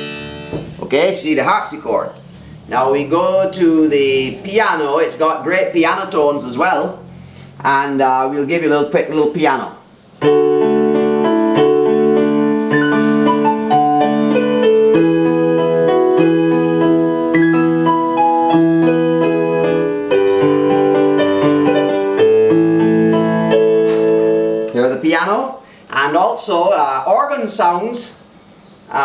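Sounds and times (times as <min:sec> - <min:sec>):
digital keyboard piano piece: 0:00.0 - 0:29.0.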